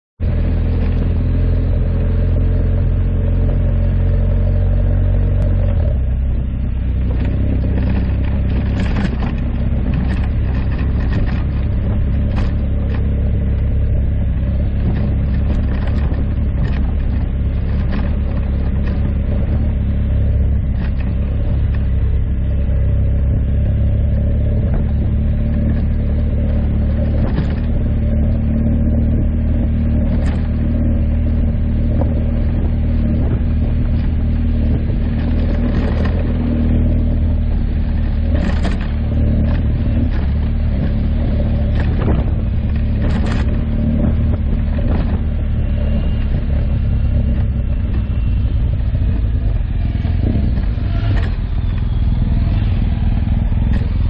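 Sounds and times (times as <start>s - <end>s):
motorcycle engine running: 0.2s - 54.0s.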